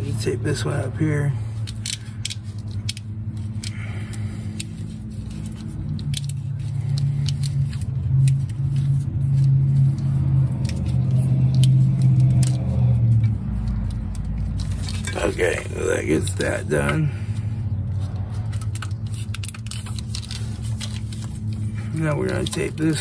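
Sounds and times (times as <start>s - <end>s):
low rumbling hum: 0.0s - 23.0s
tape unrolling clicks and crackles: 0.0s - 23.0s.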